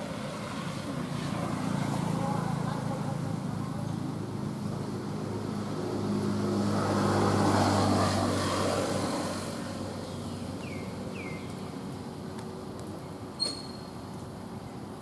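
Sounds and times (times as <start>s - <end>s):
passing vehicle engine hum: 0.0s - 13.3s.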